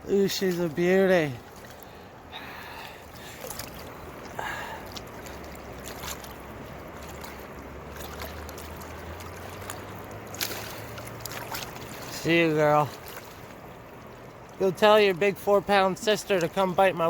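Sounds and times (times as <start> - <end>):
flowing river water: 0.0 - 17.0.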